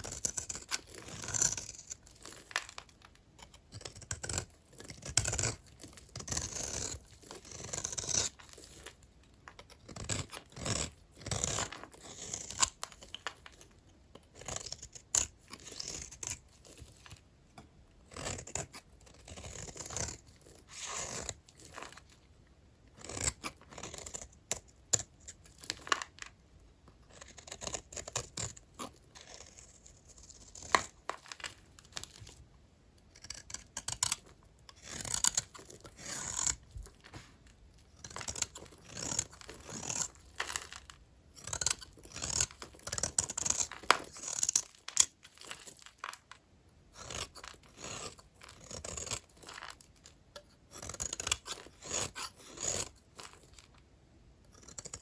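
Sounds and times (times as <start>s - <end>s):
knife scraping soap: 0.0s - 55.0s.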